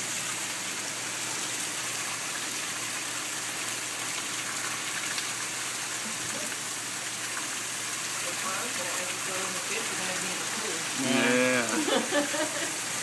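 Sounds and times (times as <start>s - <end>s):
hard rain pouring: 0.0s - 13.0s.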